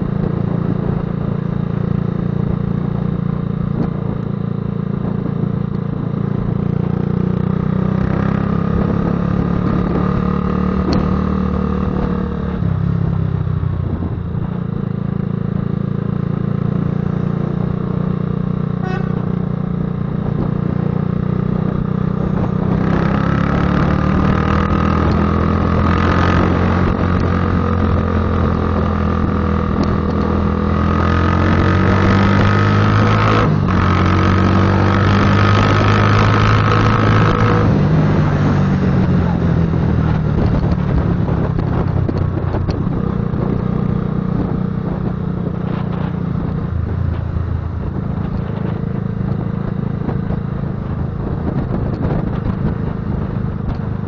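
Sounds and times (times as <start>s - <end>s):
motorcycle engine rumble: 0.0s - 54.0s.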